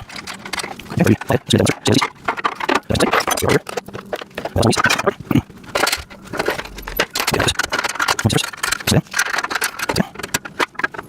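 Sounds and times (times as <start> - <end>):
metal parts and screws clinking: 0.0 - 11.0.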